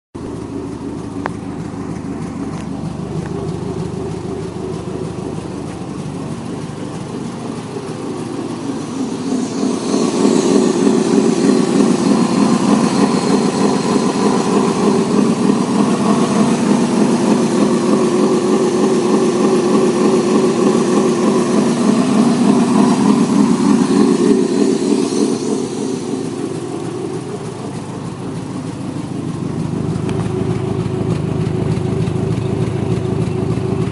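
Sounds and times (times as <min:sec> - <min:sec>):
petrol engine running: 0:00.2 - 0:33.9.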